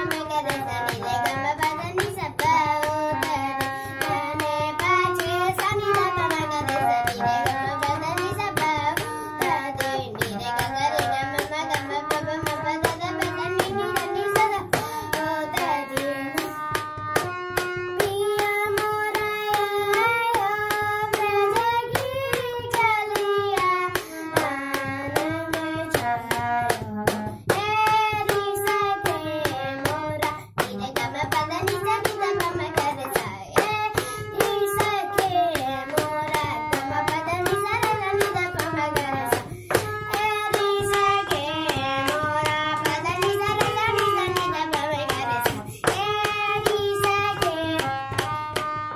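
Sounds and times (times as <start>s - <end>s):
boy singing: 0.0s - 48.9s
harmonium held tones: 0.0s - 48.9s.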